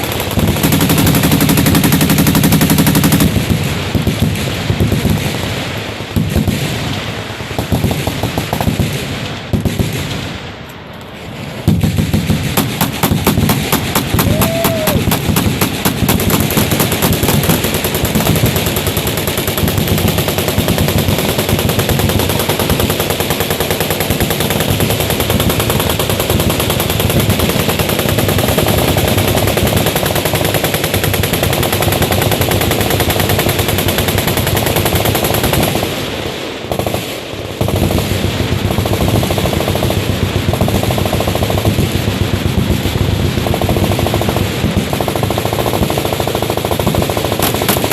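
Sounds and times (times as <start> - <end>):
machine guns firing: 0.0 - 10.4, 11.2 - 47.9.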